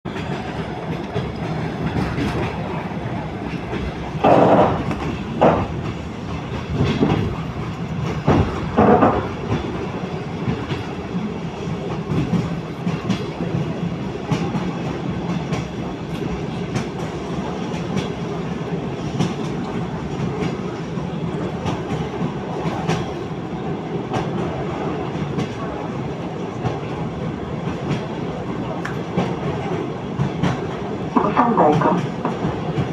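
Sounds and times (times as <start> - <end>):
train wheels clattering on rails: 0.1 - 32.9.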